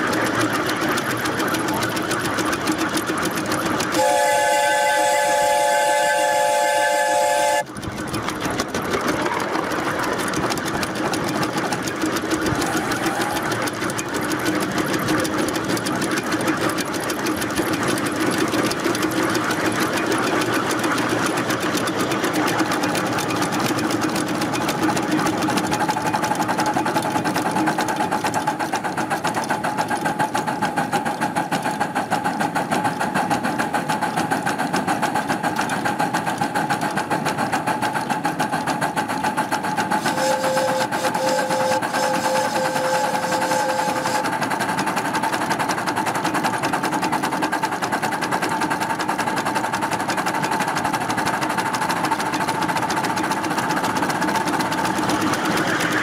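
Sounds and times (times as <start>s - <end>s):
steam locomotive clatter: 0.0s - 56.0s.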